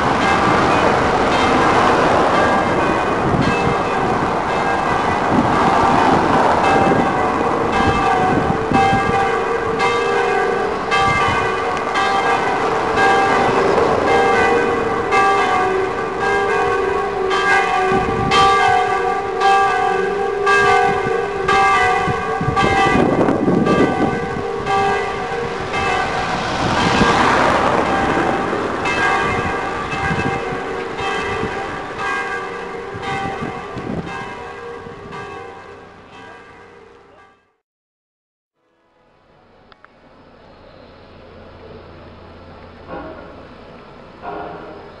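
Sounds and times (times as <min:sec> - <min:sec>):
church bells ringing: 0:00.0 - 0:37.6, 0:41.5 - 0:45.0
city street traffic: 0:00.0 - 0:37.6, 0:38.7 - 0:45.0.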